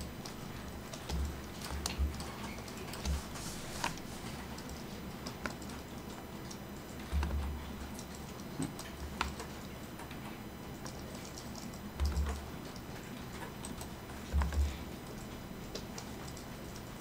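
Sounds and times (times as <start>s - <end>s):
keyboard and mouse clicks: 0.0s - 17.0s.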